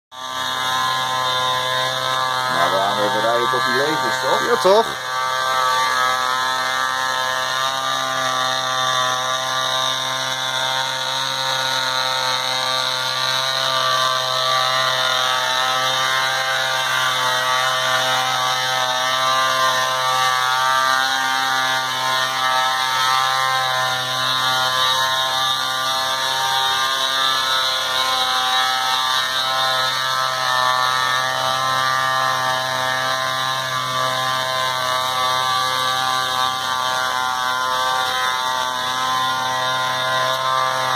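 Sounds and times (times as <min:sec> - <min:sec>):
small model engine buzzing: 0:00.1 - 0:40.9.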